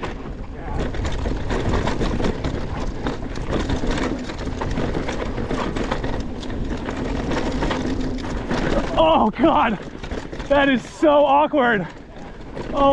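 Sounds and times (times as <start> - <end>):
bike rattling over rocks: 0.0 - 12.9
bike tyres on dirt: 0.0 - 12.9.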